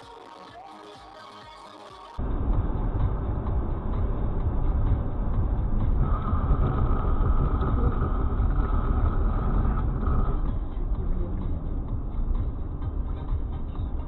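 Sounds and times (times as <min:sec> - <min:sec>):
car driving rumble: 0:02.2 - 0:14.0.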